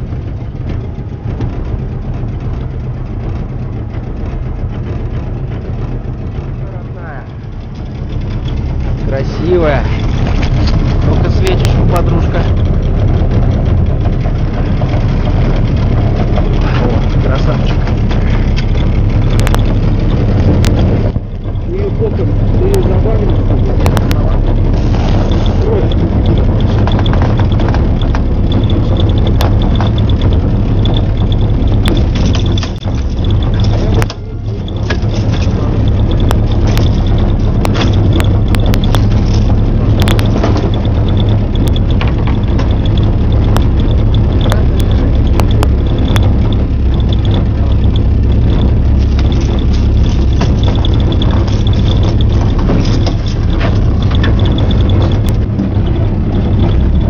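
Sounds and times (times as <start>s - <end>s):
knocks and clicks from gear: 0.0s - 57.0s
outboard motor hum: 0.0s - 57.0s.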